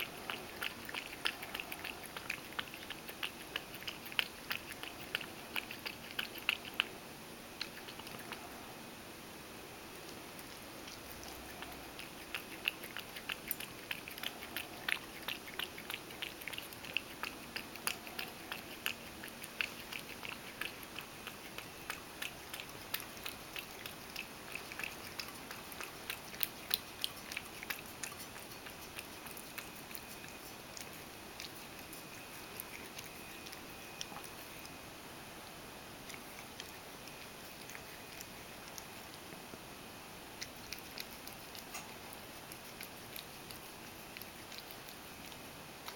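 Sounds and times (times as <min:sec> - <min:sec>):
cat lapping milk: 0:00.0 - 0:08.6, 0:09.8 - 0:34.8, 0:35.4 - 0:39.6, 0:40.2 - 0:45.9.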